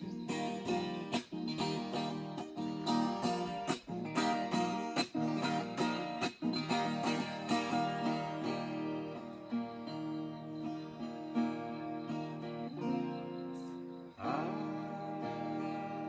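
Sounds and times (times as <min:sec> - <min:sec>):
plucked and strummed guitar: 0:00.0 - 0:16.0.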